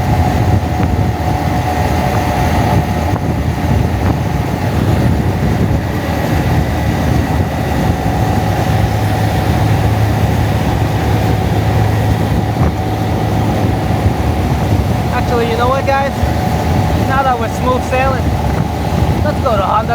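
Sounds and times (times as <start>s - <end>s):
motorcycle engine running: 0.0s - 19.9s
wind noise on microphone: 0.0s - 19.9s.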